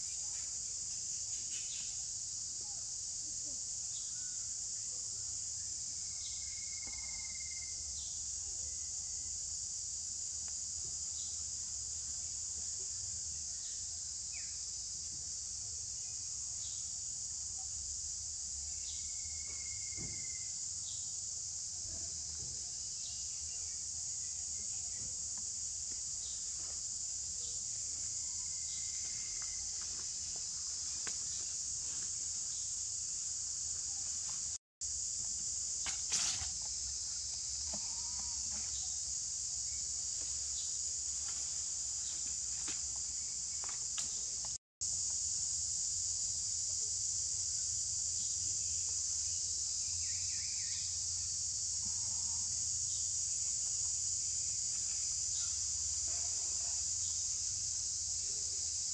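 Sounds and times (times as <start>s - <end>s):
high-pitched insect chorus: 0.0s - 58.9s.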